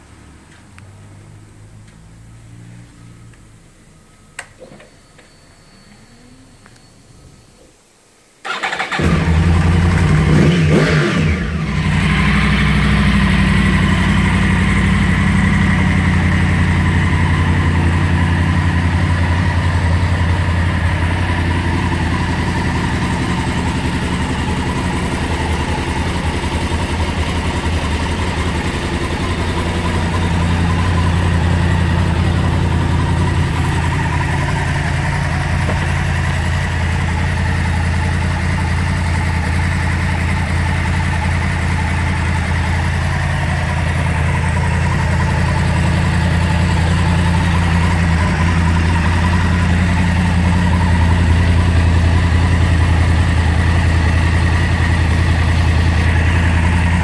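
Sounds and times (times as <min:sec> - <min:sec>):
motorcycle engine starting and idling: 0:08.4 - 0:57.0.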